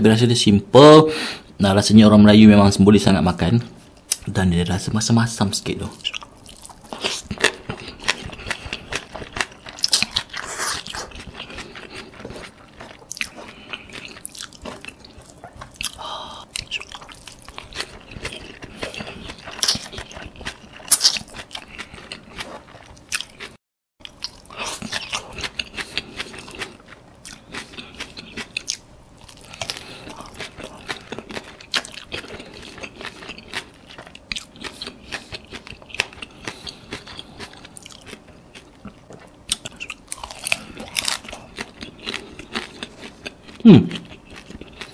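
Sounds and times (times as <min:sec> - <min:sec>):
wet chewing and smacking: 0:06.0 - 0:44.9.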